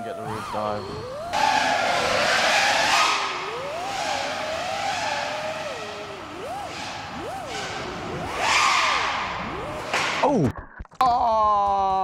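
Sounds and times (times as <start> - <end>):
drone motors and props whining: 0.0 - 10.4.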